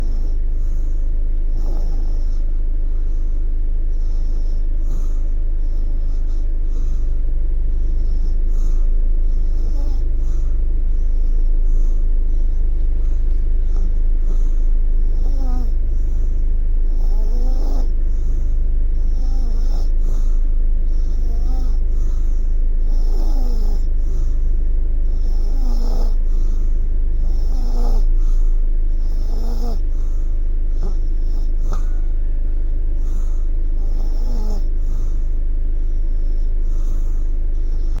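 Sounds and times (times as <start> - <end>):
baby snoring: 0.0 - 38.0
loud steady low hum: 0.0 - 38.0.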